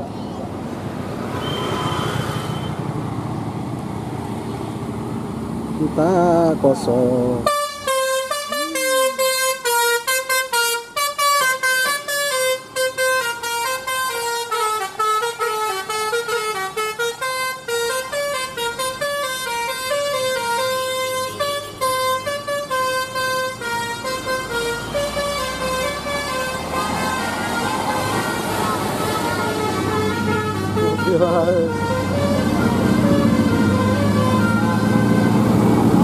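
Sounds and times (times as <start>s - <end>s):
bus musical horn playing tune: 1.3s - 2.8s, 7.4s - 35.7s.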